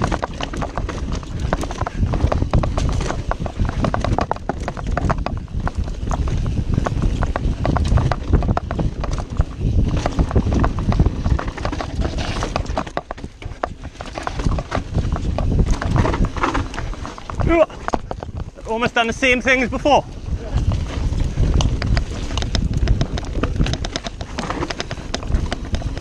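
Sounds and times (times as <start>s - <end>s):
mountain bike rattling over trail: 0.0s - 26.0s.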